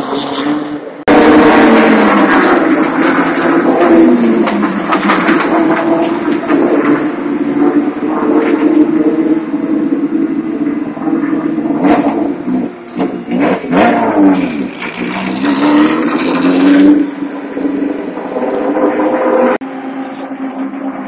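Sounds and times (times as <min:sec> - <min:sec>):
racing car engine revving: 0:00.0 - 0:21.0.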